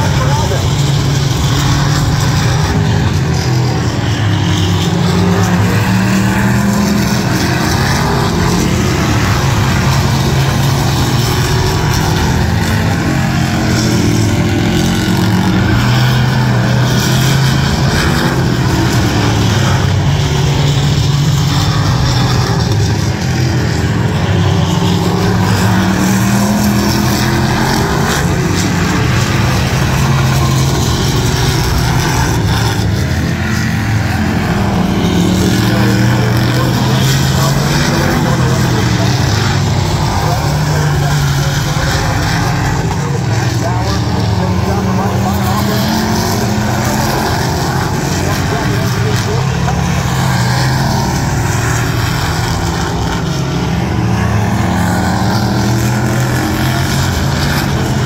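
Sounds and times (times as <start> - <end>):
racing car engines: 0.0 - 58.0.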